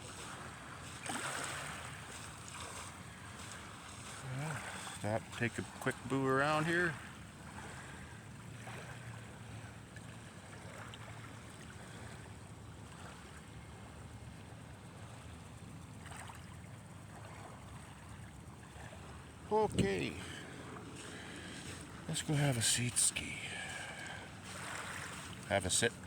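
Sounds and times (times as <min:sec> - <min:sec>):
small waves lapping at shore: 0:00.0 - 0:26.0.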